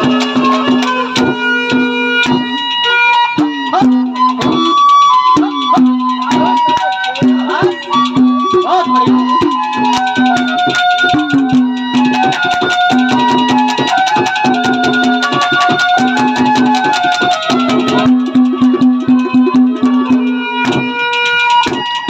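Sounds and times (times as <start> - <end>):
harmonium playing fast melody: 0.0 - 22.0
rapid hand-drum strokes: 0.0 - 22.0.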